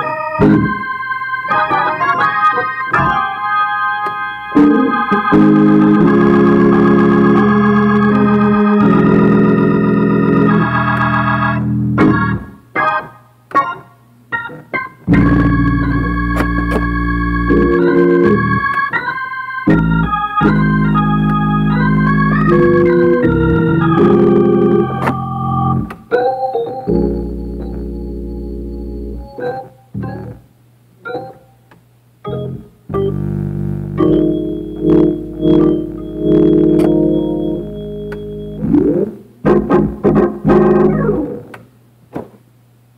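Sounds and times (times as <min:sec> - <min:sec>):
organ playing gospel chords: 0:00.0 - 0:31.6, 0:32.2 - 0:41.6.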